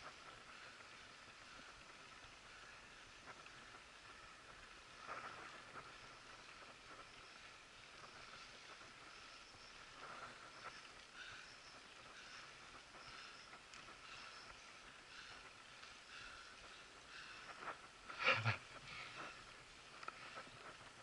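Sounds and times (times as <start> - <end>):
faint background hiss: 0.0 - 21.0
soft clicks and rustles: 3.0 - 21.0.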